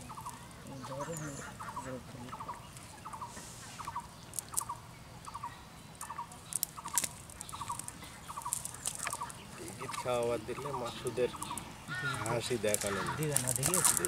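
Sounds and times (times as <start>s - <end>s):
animal calling: 0.0s - 14.0s.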